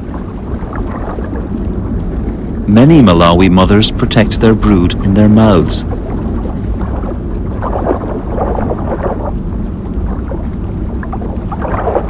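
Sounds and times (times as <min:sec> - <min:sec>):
underwater low rumble: 0:00.0 - 0:12.0.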